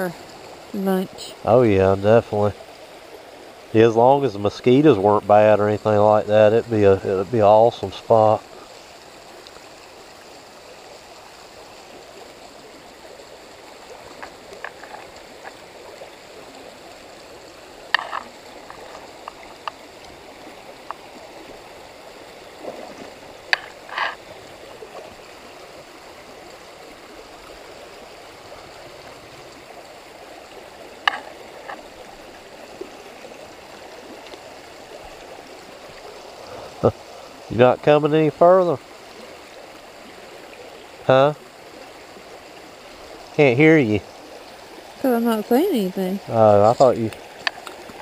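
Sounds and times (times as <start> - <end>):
creek running over rocks: 0.0 - 48.0.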